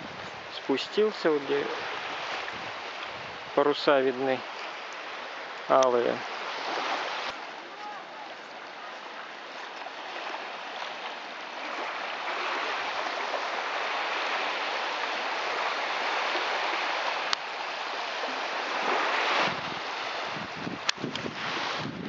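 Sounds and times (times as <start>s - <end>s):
small waves lapping on shore: 0.0s - 22.0s.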